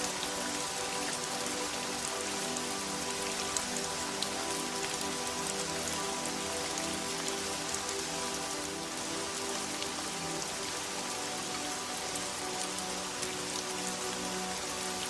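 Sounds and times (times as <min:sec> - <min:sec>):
rain falling: 0:00.0 - 0:15.0
raindrops ticking: 0:00.0 - 0:15.0
soft background music: 0:00.0 - 0:15.0.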